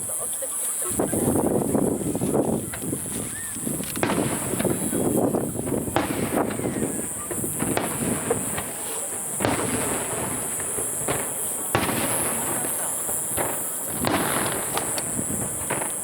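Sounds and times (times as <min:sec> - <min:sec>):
firework shells bursting: 0:00.9 - 0:16.0.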